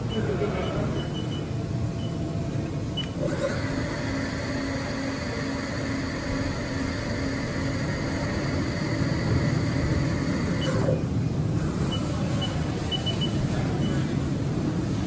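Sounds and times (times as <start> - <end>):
mill spindle hum and rumble: 0.0 - 15.0.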